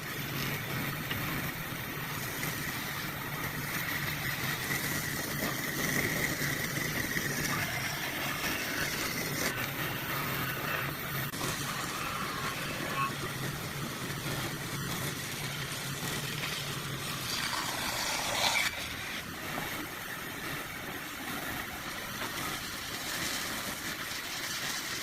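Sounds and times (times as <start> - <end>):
faint high whine: 0.0 - 22.8.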